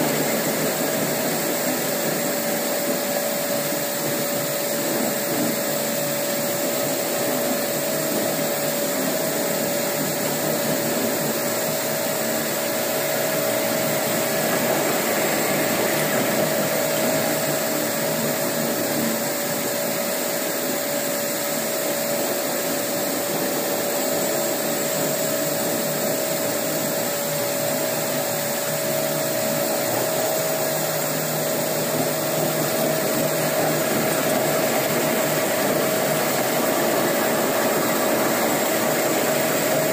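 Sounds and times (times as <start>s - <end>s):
floor grinder running: 0.0s - 39.9s.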